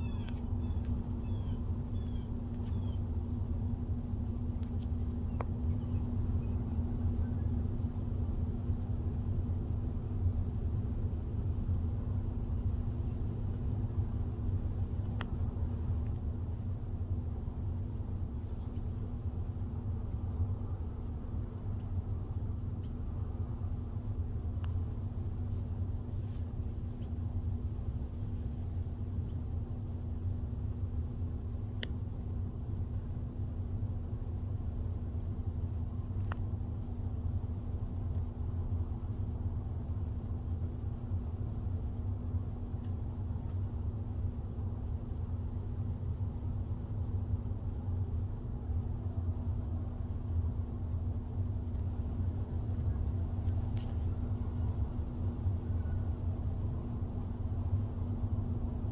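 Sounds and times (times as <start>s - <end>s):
small birds chirping: 0.0s - 10.3s, 11.5s - 30.9s, 31.6s - 58.9s
steady low rumble: 0.0s - 58.9s.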